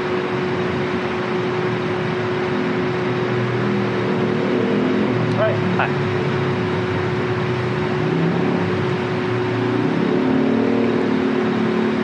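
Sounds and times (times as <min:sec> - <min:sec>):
traffic road noise: 0:00.0 - 0:12.0
vehicle engine: 0:00.0 - 0:12.0.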